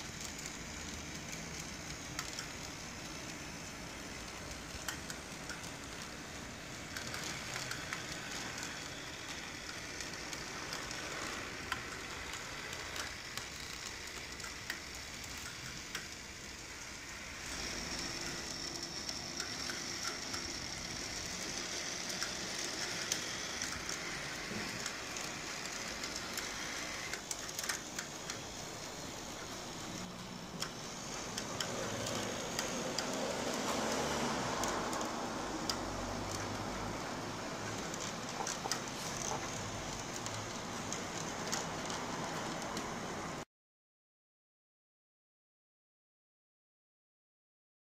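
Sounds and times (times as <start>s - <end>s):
trolley poles sliding on wire: 0.0s - 16.2s, 16.8s - 43.0s
small clicks: 0.0s - 43.0s
model streetcar wheels crackling: 0.0s - 43.4s.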